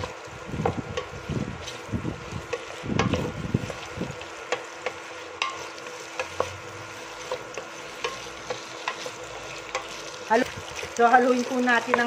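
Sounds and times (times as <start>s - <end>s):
food sizzling in butter: 0.0s - 12.0s
wooden spoon scraping pot: 0.0s - 12.0s.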